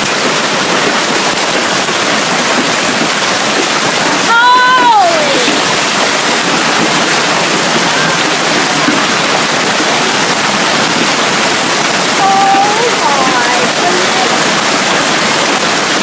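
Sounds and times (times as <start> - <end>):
hail and heavy rain pounding: 0.0 - 16.0.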